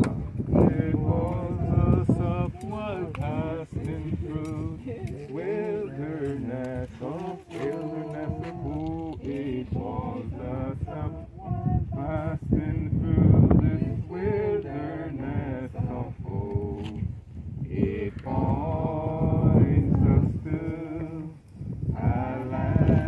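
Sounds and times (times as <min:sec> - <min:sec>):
group of voices singing: 0:00.0 - 0:23.0.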